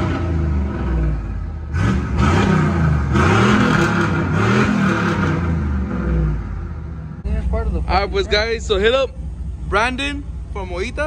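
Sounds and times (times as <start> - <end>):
pickup engine revving: 0.0 - 11.0.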